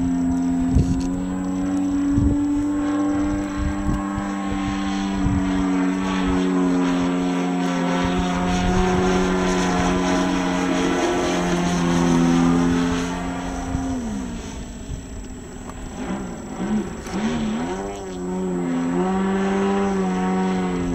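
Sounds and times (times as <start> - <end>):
model airplane motor droning: 0.0 - 20.9.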